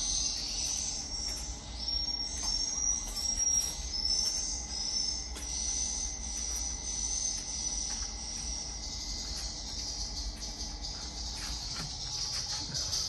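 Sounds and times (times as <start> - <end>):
recorded bird chirps over speakers: 0.0 - 13.0.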